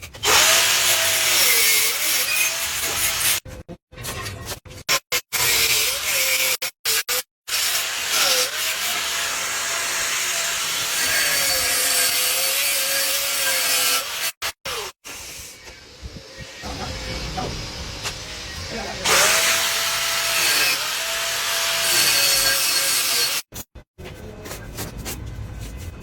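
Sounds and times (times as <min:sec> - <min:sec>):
power grinder grinding steel: 0:00.2 - 0:03.4, 0:05.1 - 0:23.5.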